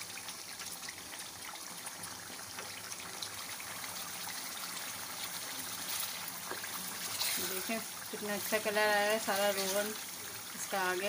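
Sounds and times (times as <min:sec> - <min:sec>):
chicken sizzling and crackling in oil: 0:00.0 - 0:11.0.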